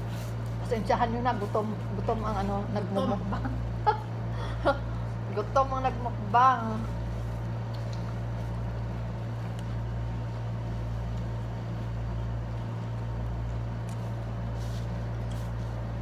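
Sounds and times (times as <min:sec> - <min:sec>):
window air conditioner humming: 0:00.0 - 0:16.0.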